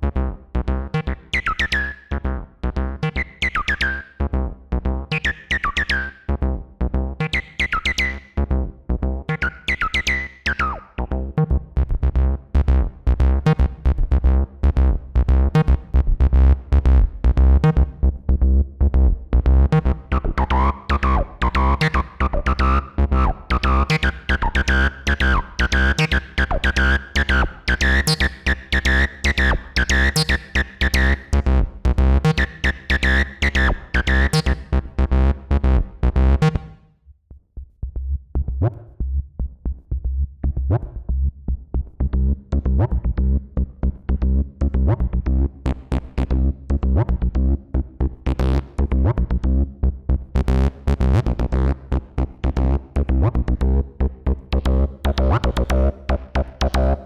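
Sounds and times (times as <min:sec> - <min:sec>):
squelchy acid bassline synth: 0:00.1 - 0:04.3, 0:04.9 - 0:06.4, 0:07.0 - 0:36.7, 0:44.0 - 0:57.0.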